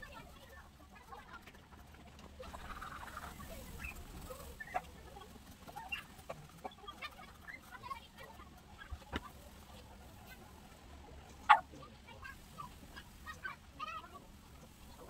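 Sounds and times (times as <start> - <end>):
animal calls: 2.4 - 15.0.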